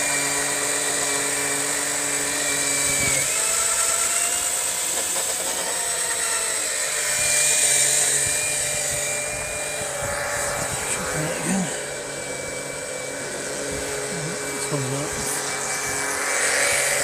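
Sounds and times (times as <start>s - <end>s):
electric oil pump whining: 0.0s - 17.0s.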